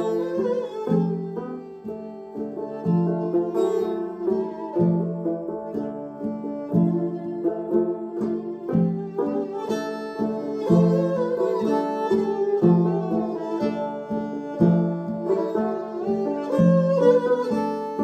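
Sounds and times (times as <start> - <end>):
bowed string melody: 0.0 - 18.0
plucked lute pattern: 0.0 - 18.0.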